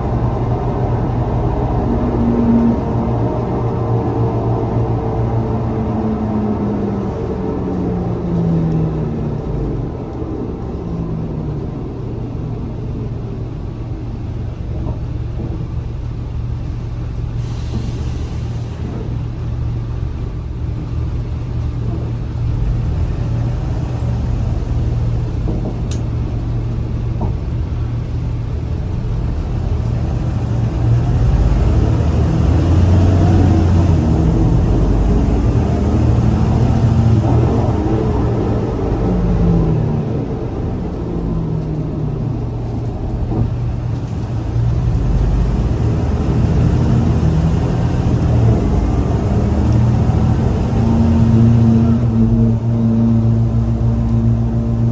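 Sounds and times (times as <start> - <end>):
bus engine rumble: 0.0 - 54.9.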